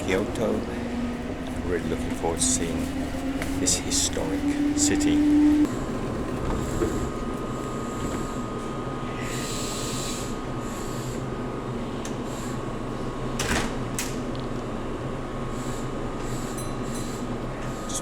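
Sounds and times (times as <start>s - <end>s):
train humming at platform: 0.0s - 18.0s.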